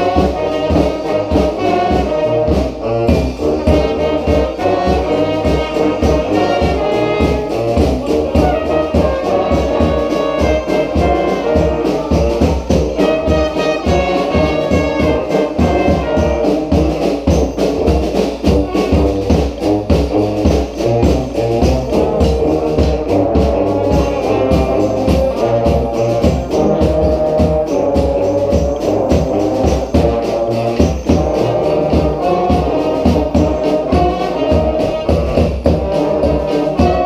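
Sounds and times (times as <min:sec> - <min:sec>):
brass band playing: 0:00.0 - 0:37.0.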